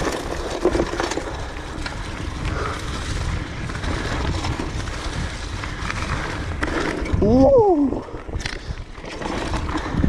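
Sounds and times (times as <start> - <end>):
bicycle clicks and rattles: 0.0 - 10.0
bicycle tyres on dirt: 0.0 - 10.0
wind buffeting microphone: 1.3 - 10.0.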